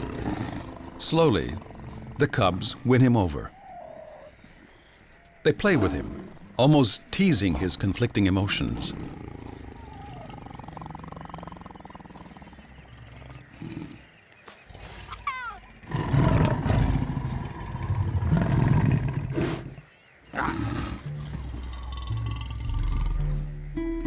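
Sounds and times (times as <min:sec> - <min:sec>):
lions growling and snarling: 0:00.0 - 0:06.8, 0:07.5 - 0:23.4.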